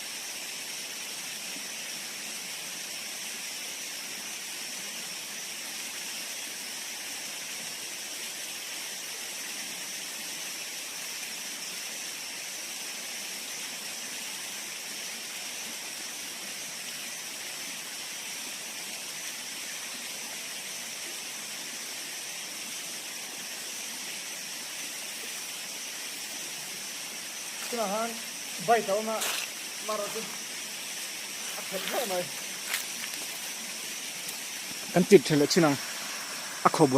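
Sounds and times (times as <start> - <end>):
stream water rushing: 0.0 - 36.9.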